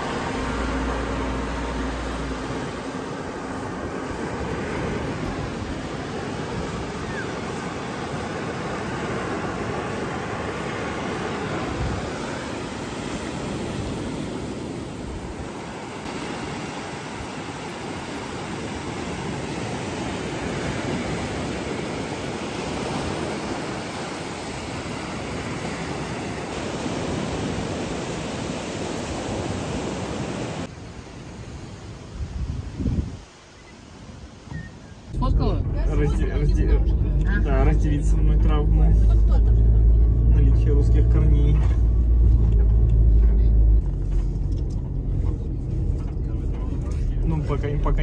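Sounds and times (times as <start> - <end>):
steady rushing noise: 0.0 - 34.3, 35.0 - 48.0.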